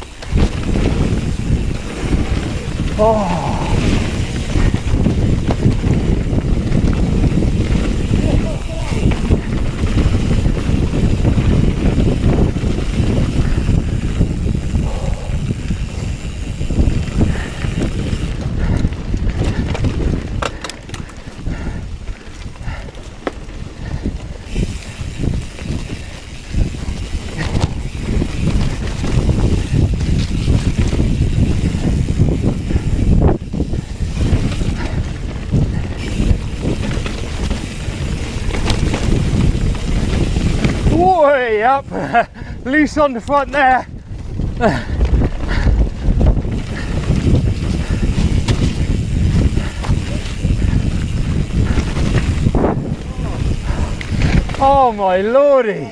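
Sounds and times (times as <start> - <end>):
bike clicks and knocks: 0.0 - 3.2, 3.8 - 41.0, 43.5 - 55.4
bike tyre and frame noise: 0.0 - 55.9
wind rumbling on microphone: 0.0 - 55.9.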